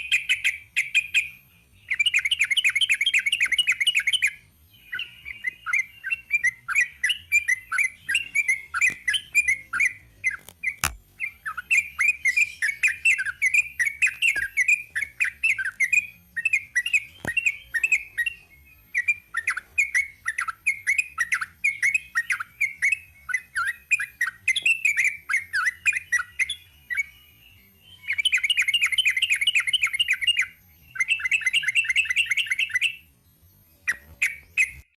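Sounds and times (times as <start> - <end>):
bird singing rapid chattering song: 0.0 - 27.2, 27.9 - 33.0, 33.7 - 34.9.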